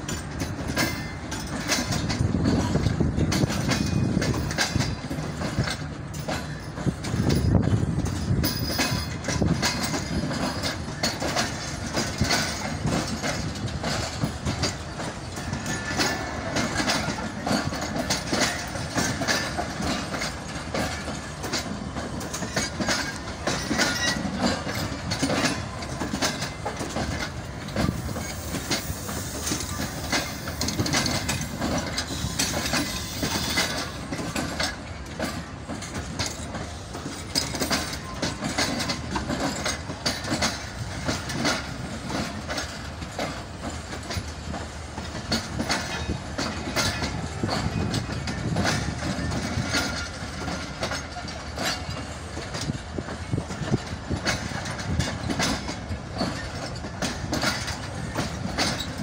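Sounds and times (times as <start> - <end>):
train coaches rumbling past: 0.0 - 59.0
wheels clattering over rail joints: 0.0 - 59.0.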